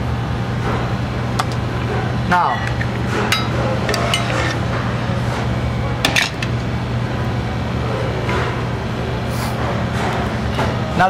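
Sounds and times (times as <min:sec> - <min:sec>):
low kitchen hum: 0:00.0 - 0:11.0.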